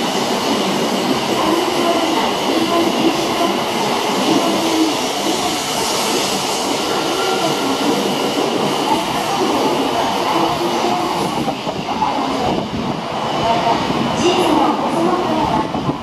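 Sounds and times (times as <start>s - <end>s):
high-speed train rushing past: 0.0s - 16.0s.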